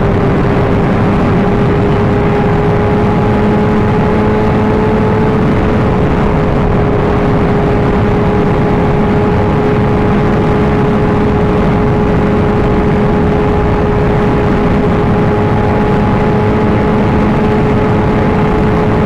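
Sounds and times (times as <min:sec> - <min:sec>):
motorcycle engine cruising: 0:00.0 - 0:19.0
wind rush: 0:00.0 - 0:19.0.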